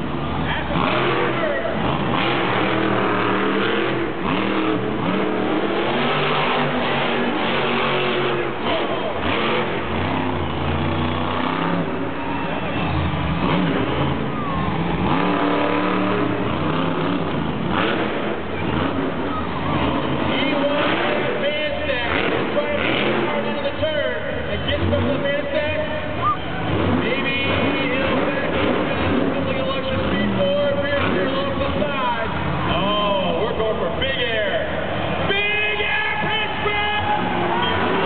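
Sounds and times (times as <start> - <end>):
truck engine revving hard: 0.0 - 35.3, 36.1 - 38.0.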